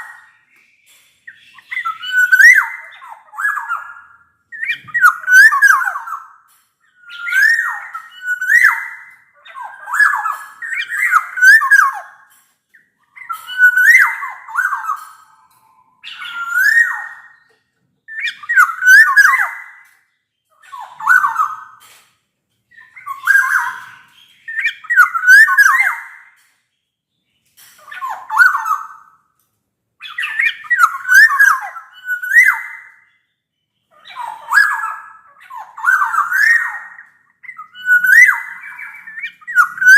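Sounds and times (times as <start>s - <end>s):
bird whistling calls: 0.0s - 21.8s, 22.7s - 26.4s, 27.8s - 29.3s, 30.0s - 33.3s, 33.9s - 39.9s.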